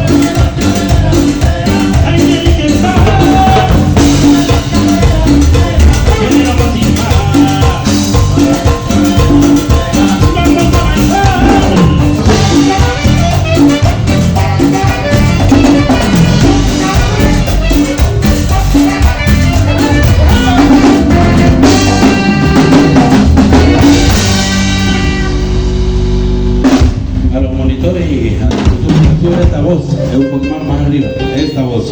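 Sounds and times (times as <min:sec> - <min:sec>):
drum kit and percussion beat: 0:00.0 - 0:31.9
live band playing latin dance music: 0:00.0 - 0:31.9.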